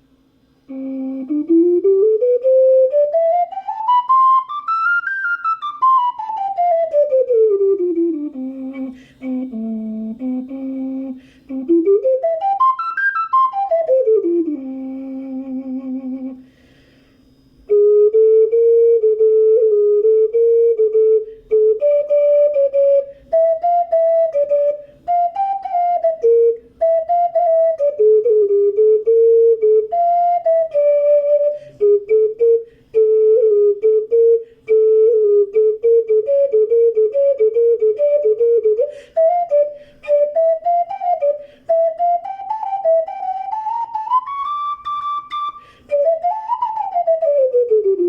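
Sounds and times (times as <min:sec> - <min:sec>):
ocarina melody: 0:00.0 - 0:48.0.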